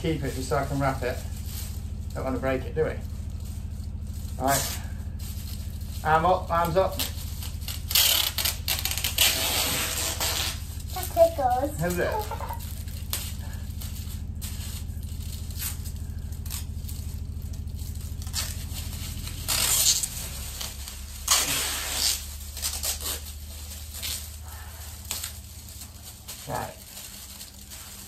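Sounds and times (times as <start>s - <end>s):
low steady hum: 0.0s - 28.0s
tin foil crinkling: 0.0s - 28.0s.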